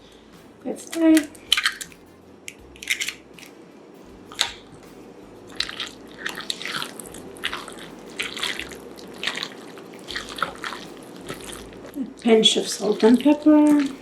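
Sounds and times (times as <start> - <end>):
utensil stirring wet filling: 0.0 - 3.5, 4.3 - 14.0.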